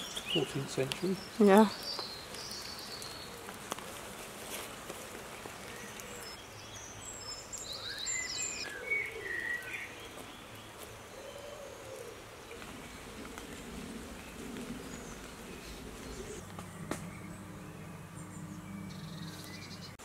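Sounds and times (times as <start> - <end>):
birds chirping and calling: 0.0 - 3.8, 5.3 - 20.0.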